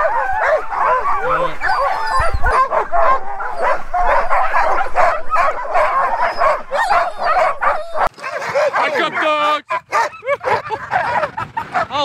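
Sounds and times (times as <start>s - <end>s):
sled dogs yipping and barking: 0.0s - 12.0s.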